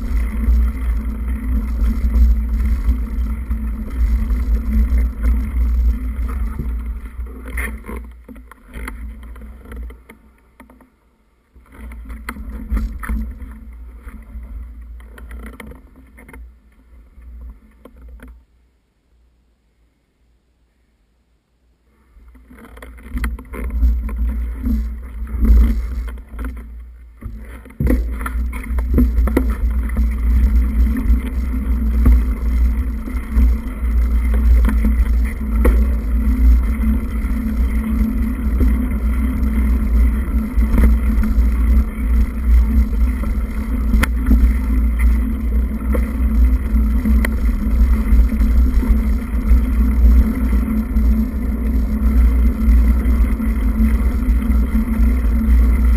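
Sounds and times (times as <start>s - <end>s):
camera rumbling and rattling: 0.0s - 10.9s, 11.5s - 18.4s, 22.2s - 55.9s
steady low hum: 0.0s - 55.9s.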